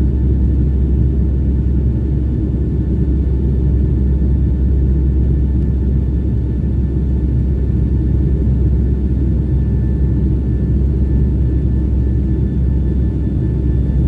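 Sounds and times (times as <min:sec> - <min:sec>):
faint engine whine: 0:00.0 - 0:14.0
jet cabin low rumble: 0:00.0 - 0:14.0.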